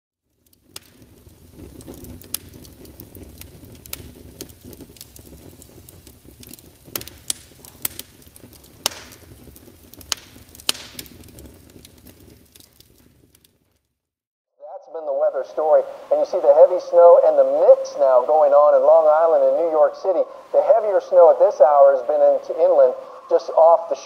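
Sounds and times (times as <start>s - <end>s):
sharp crackles and pops: 0.2s - 14.1s, 15.0s - 24.0s.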